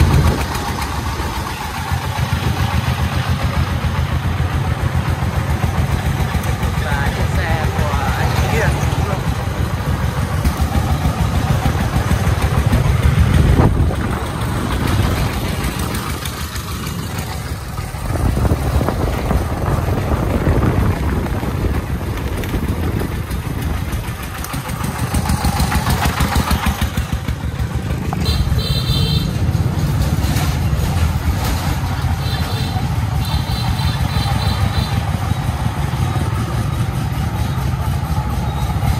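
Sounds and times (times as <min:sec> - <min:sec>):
diesel engine chugging: 0:00.0 - 0:38.9
motorbike engine: 0:00.0 - 0:38.9.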